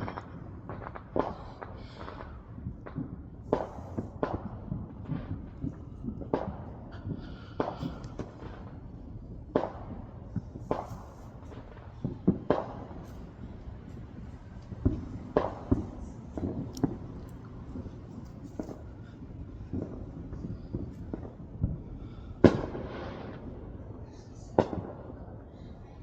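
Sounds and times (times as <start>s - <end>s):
low steady rumble: 0.0s - 24.6s
fireworks popping and banging: 0.0s - 25.8s.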